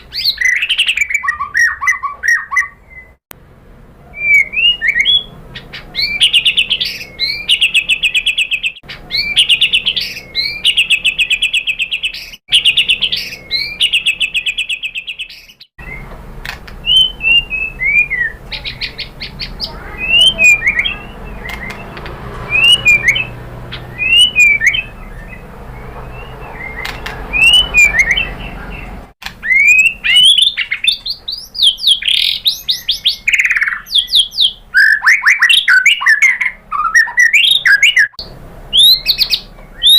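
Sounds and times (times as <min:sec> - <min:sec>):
songbird trilling and whistling: 0:00.0 - 0:03.2, 0:04.1 - 0:16.1, 0:16.8 - 0:39.9.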